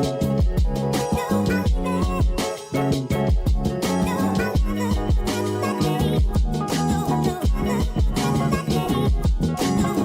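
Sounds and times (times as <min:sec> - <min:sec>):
music with drums and bass: 0:00.0 - 0:10.0.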